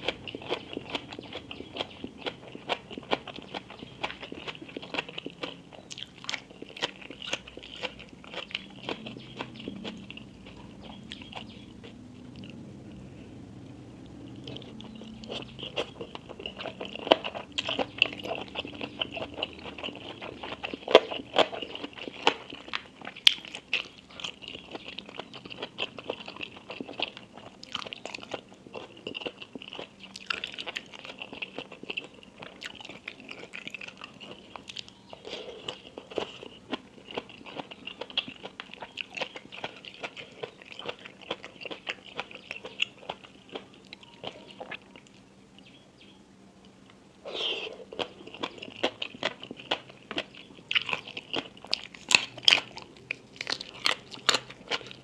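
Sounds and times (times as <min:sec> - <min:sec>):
person chewing crisp food: 0:00.0 - 0:13.1, 0:14.0 - 0:45.8, 0:47.2 - 0:55.0.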